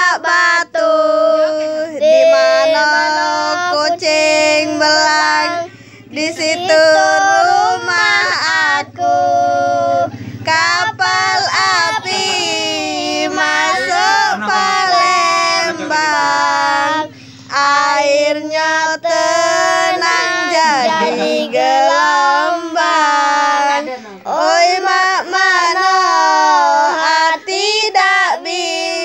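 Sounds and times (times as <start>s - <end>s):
high child-like voice singing: 0.0s - 29.0s.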